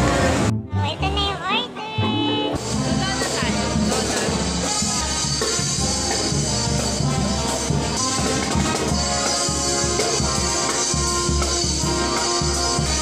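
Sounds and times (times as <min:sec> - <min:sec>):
music with drums and percussion: 0:02.0 - 0:13.0.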